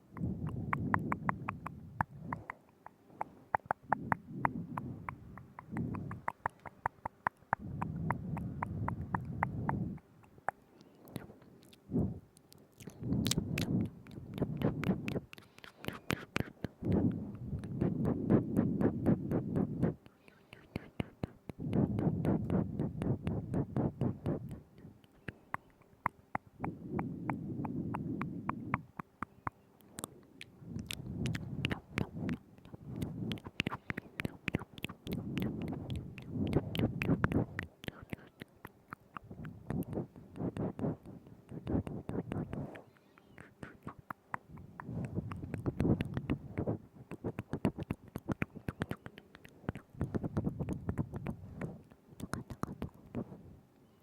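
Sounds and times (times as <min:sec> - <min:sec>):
wet mouth clicks and pops: 0:00.0 - 0:53.4.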